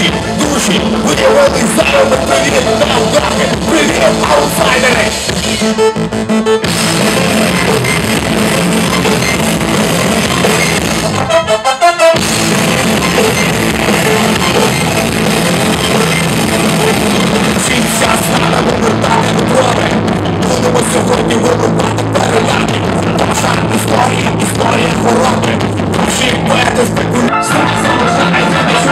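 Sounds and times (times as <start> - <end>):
bass guitar: 0.0 - 28.9
drum kit: 0.0 - 28.9
electric guitar: 0.0 - 28.9.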